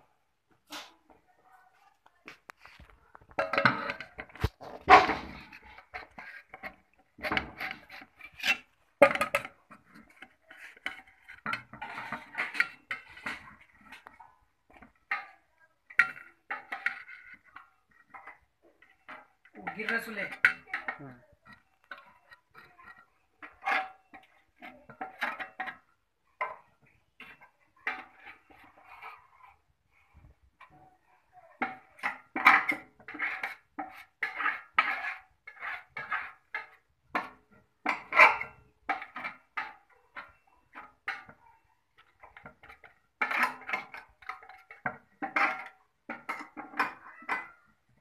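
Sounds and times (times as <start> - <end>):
metal bowl clinking and scraping: 2.5 - 48.0.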